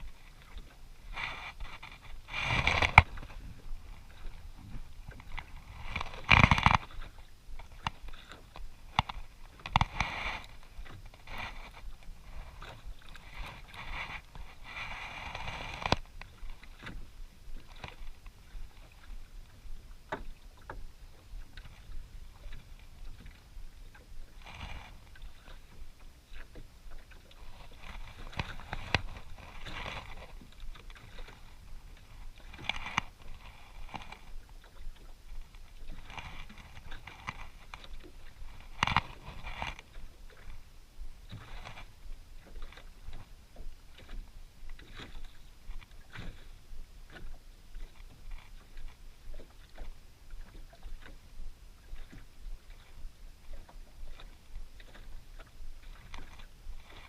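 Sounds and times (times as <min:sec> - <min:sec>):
water slapping against boat hull: 0:00.0 - 0:57.0.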